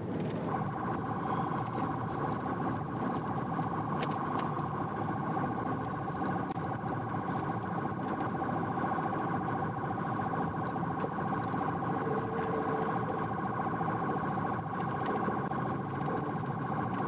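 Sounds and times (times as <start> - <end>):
car engine: 0.0 - 17.0
road noise: 0.0 - 17.0
fast-pulsing police siren: 0.4 - 3.2, 4.5 - 17.0.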